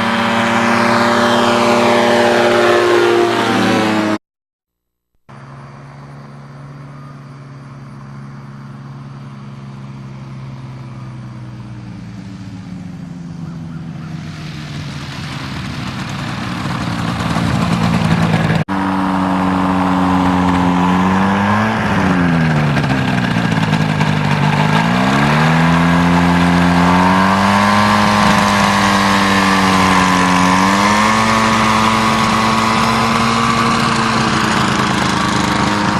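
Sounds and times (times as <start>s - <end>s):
ultralight aircraft engine: 0.0s - 4.2s, 5.3s - 35.9s.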